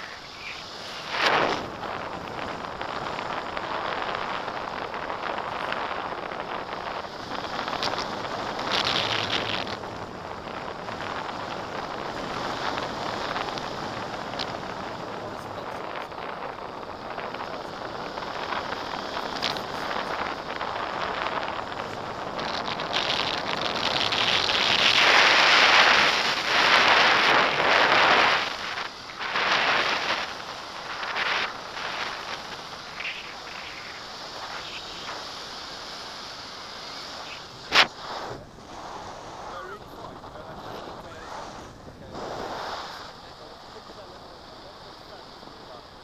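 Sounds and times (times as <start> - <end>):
wind rushing over microphone: 0.0 - 46.0.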